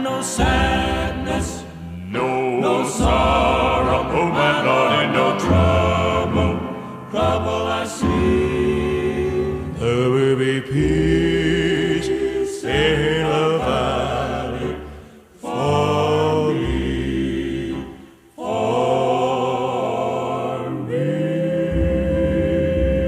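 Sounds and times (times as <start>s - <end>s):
gospel voices singing harmonies: 0.0s - 23.0s.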